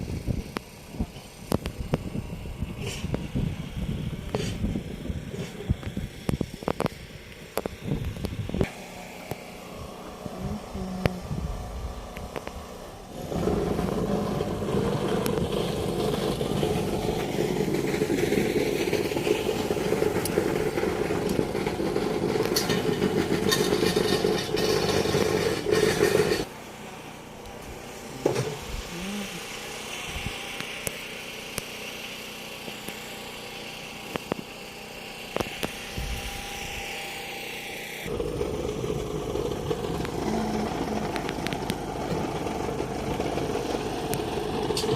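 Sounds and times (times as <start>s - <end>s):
motor engine running: 0.0s - 44.9s.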